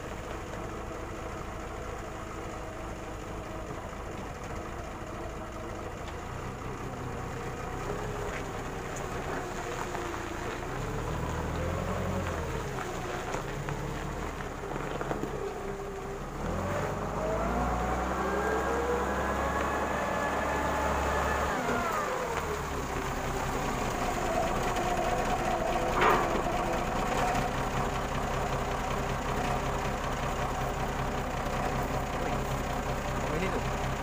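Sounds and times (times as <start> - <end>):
forklift engine revving: 0.0 - 34.0.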